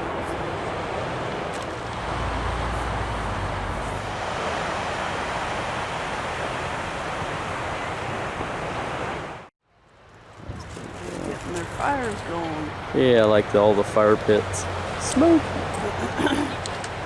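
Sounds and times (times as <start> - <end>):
surf washing onto beach: 0.0 - 9.5, 10.2 - 17.0
wind rumbling on microphone: 0.0 - 17.0.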